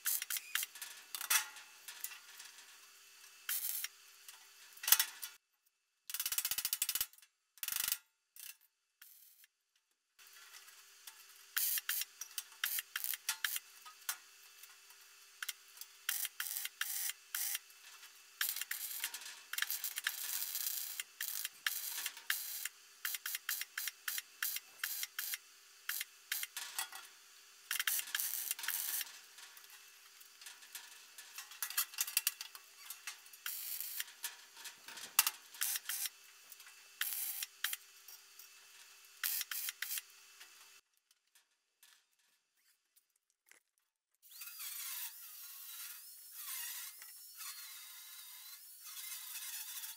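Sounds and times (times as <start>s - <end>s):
welding crackling and sizzling: 0.0s - 5.4s, 8.4s - 9.5s, 10.2s - 43.7s.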